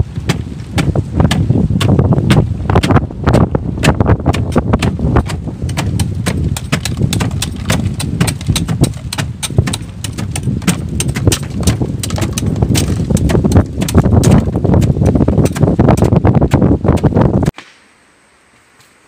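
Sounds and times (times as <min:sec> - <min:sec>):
steady low rumble: 0:00.0 - 0:17.6
bait being pounded: 0:00.2 - 0:17.8.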